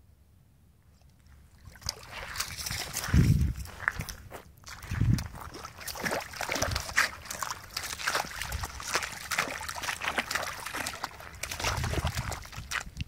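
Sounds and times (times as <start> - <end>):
dog paws splashing in water: 1.0 - 13.0.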